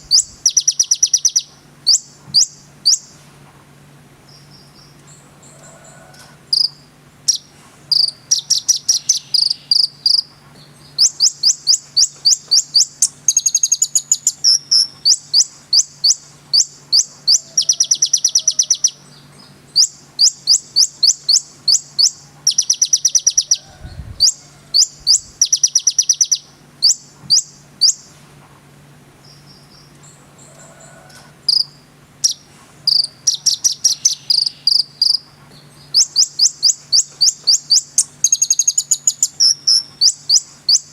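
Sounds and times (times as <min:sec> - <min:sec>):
songbird trilling: 0:00.0 - 0:03.2, 0:04.3 - 0:28.1, 0:29.2 - 0:40.9
faint low hum: 0:00.0 - 0:40.9.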